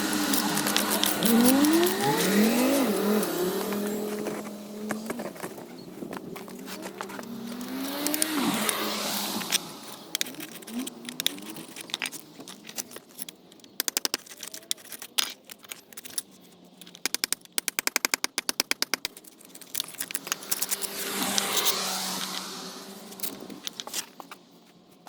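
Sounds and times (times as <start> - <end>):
tool clicking along mortar joints: 0.0 - 24.4.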